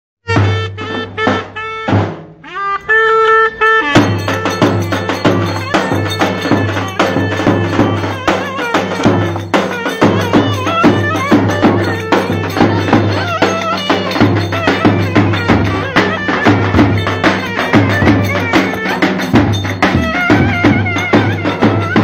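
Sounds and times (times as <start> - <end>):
driving drum beat: 0.3 - 2.9, 3.8 - 22.0
folk dance melody with bending notes: 0.3 - 22.0.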